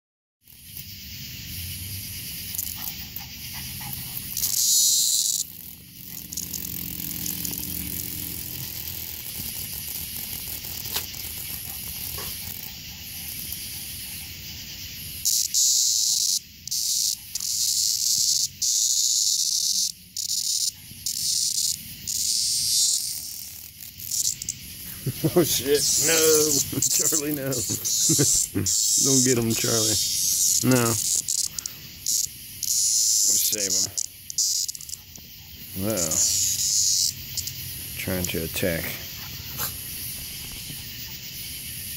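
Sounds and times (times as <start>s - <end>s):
cicada buzzing: 0.4s - 41.9s
steady high hiss: 0.5s - 41.9s.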